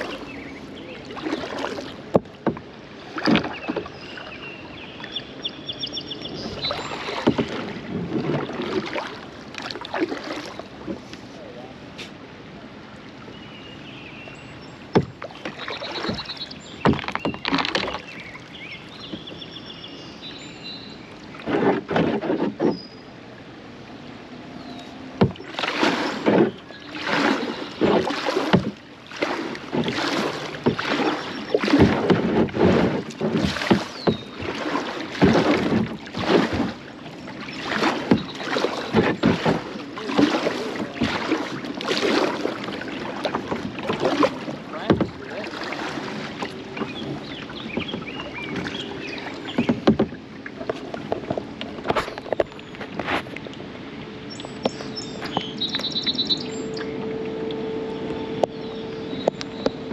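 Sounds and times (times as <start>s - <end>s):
paddle strokes splashing in water: 0.0s - 12.3s, 12.9s - 59.9s.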